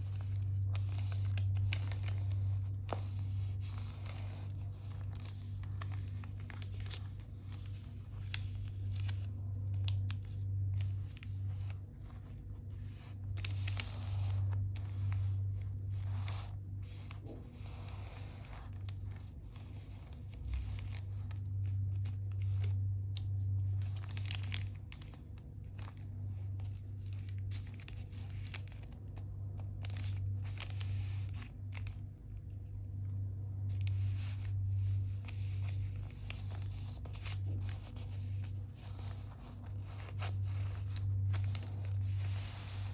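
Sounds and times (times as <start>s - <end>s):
paper folding and crinkling: 0.0s - 42.9s
steady low hum: 0.0s - 42.9s.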